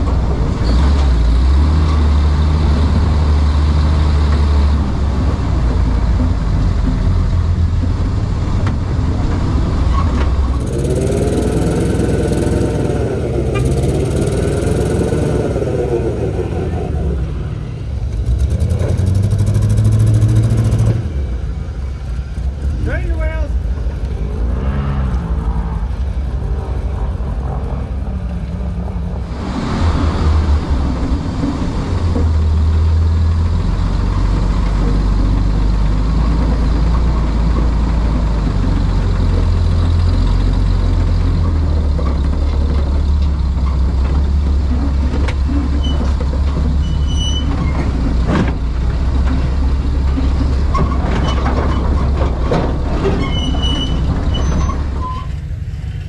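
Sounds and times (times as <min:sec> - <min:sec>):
another vehicle engine running: 0:00.0 - 0:56.0
truck engine rumbling: 0:00.0 - 0:56.0.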